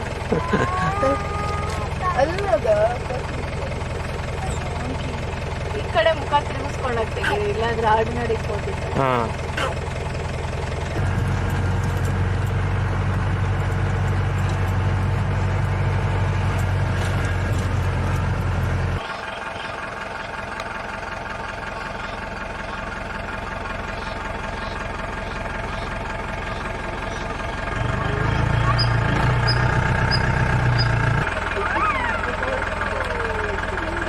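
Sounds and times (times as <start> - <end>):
vehicle engine humming: 0.0 - 34.0.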